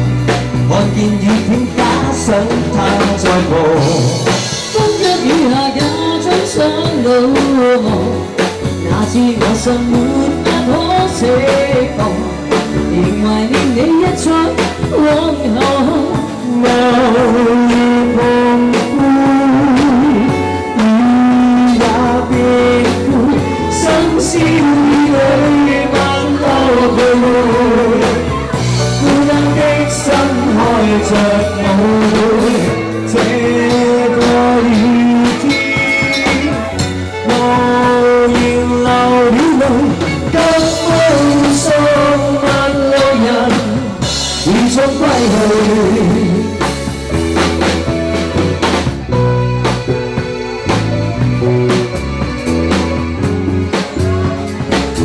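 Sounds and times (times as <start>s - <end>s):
pop backing track melody: 0.0s - 55.0s.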